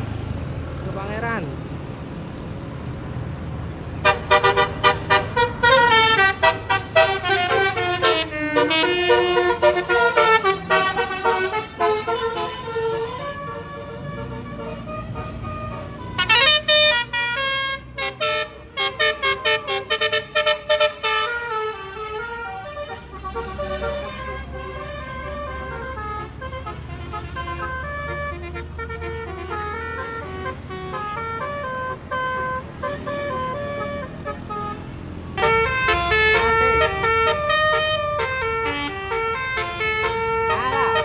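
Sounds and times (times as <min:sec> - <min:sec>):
bus engine running: 0:00.0 - 0:41.0
multi-note bus horn tune: 0:04.0 - 0:41.0.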